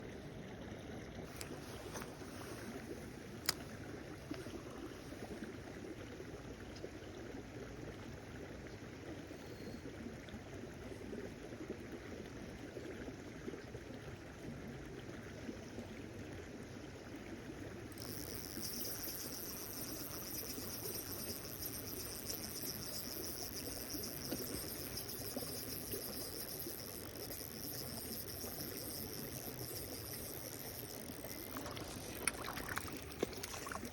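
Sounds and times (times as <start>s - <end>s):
flowing water: 0.0s - 33.9s.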